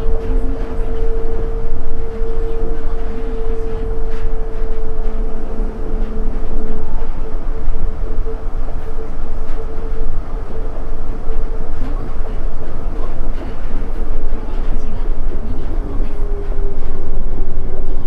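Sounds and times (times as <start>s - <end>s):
train motor whine: 0.0s - 18.0s.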